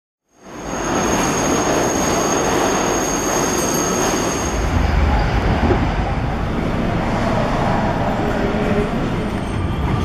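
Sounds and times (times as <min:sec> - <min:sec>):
subway train running on rails: 0:00.2 - 0:10.0.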